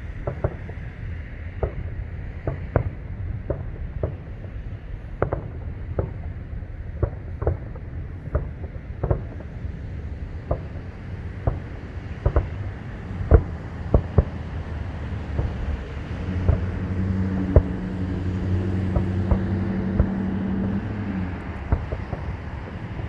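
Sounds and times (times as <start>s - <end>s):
distant fireworks bangs: 0.0s - 23.0s
low steady rumble: 0.0s - 23.0s.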